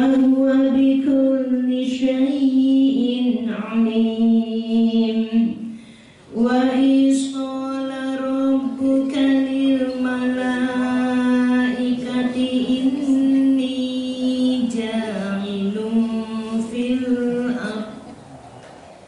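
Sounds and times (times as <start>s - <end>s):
woman chanting recitation: 0.0s - 18.1s.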